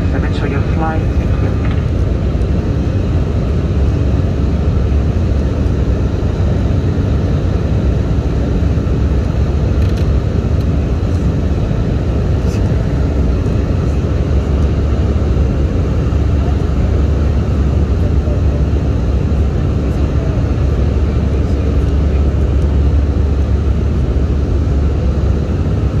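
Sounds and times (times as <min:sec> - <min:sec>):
aircraft engines rumbling: 0:00.0 - 0:26.0.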